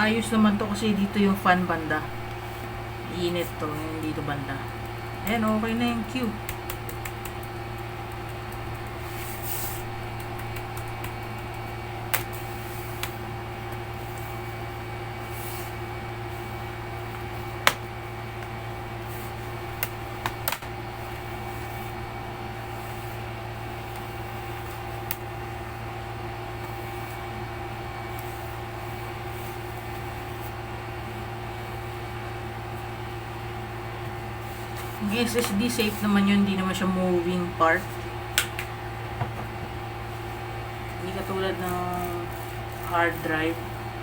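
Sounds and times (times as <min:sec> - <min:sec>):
low machine hum: 0:00.0 - 0:44.0.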